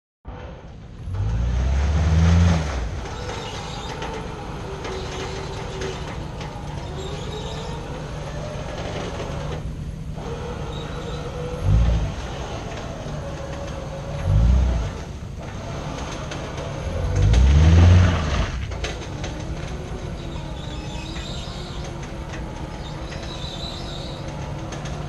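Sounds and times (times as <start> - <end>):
engine running with whine: 0.3 - 25.0.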